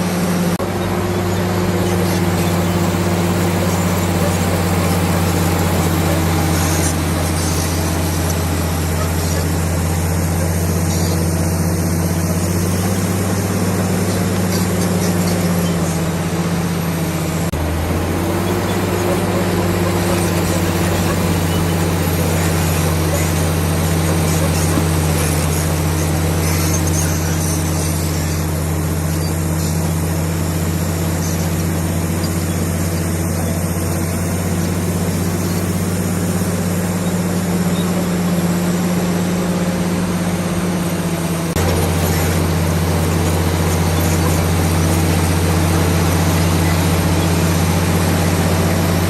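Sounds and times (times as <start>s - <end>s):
bulldozer diesel engine droning: 0.0s - 49.0s.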